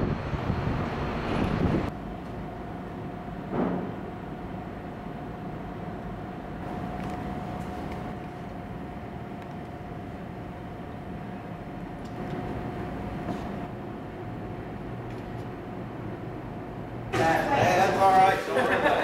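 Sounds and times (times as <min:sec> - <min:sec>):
city street noise: 0:00.0 - 0:19.0
funicular running hum with whine: 0:00.0 - 0:19.0.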